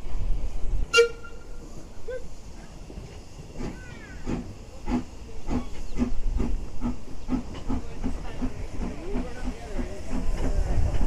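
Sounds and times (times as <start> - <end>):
steam locomotive chuffing: 0.2 - 11.0.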